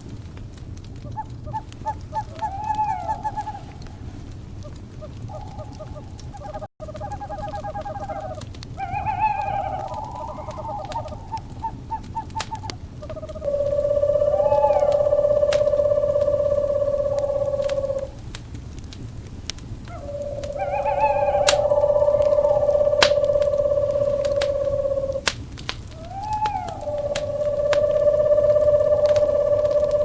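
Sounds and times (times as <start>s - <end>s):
wood fire crackling: 0.0s - 30.0s
owls hooting: 1.1s - 18.3s, 19.9s - 25.3s, 25.9s - 30.0s.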